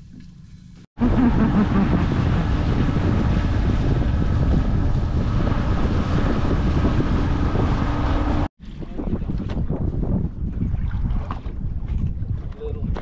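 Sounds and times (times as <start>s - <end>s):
wind buffeting microphone: 1.0s - 13.0s.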